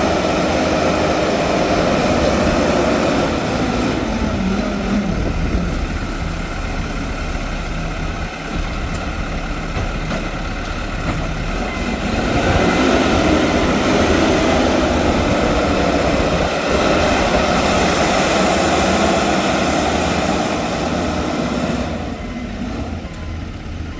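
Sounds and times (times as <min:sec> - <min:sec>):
heavy machinery diesel engine: 0:00.0 - 0:23.9.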